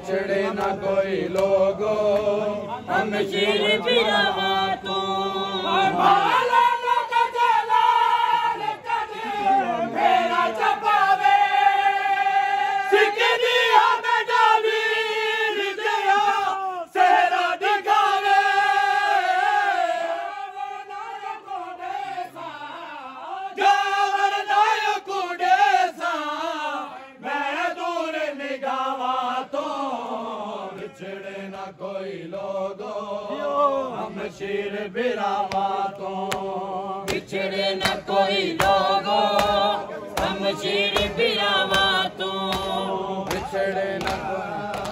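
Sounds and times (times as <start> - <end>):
men chanting a lament: 0.0 - 44.9.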